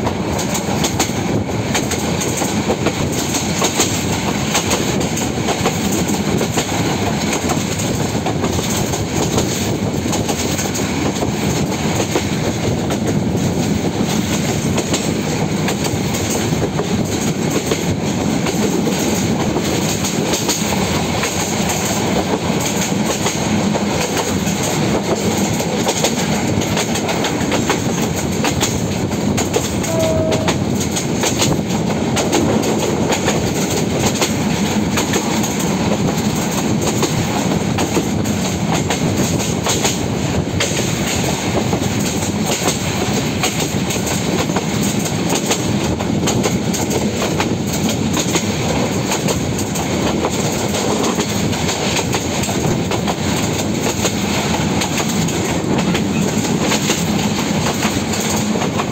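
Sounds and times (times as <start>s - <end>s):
train rumbling at speed: 0.0s - 58.9s.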